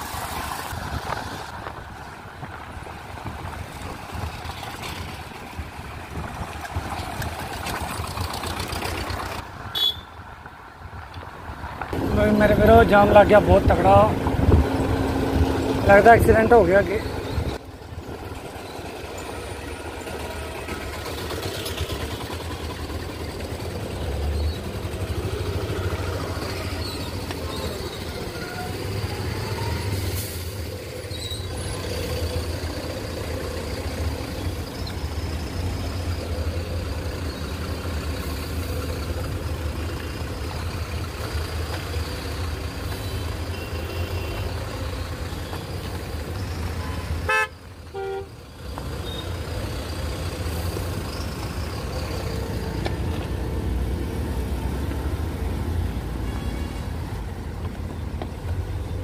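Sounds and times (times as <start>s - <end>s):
heavy vehicle engines rumbling: 0.0s - 59.0s.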